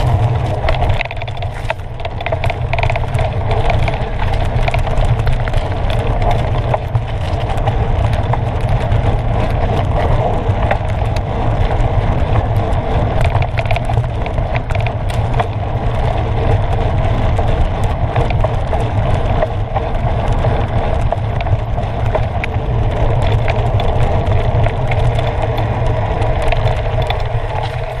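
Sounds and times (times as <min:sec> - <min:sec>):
bike rattling over bumps: 0:00.0 - 0:28.0
tyre rumble: 0:00.0 - 0:28.0
wind on microphone: 0:00.0 - 0:28.0.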